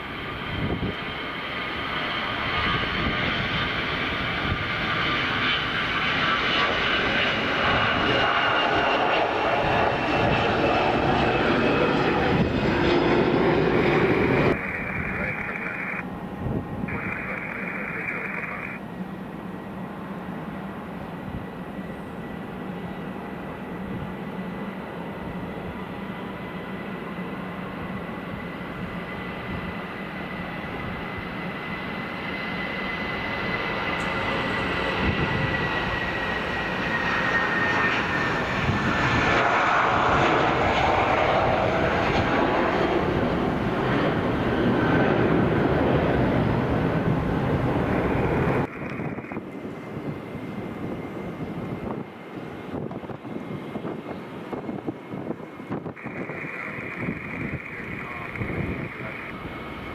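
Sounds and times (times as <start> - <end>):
jet engines rushing and whining: 0.0 - 59.9.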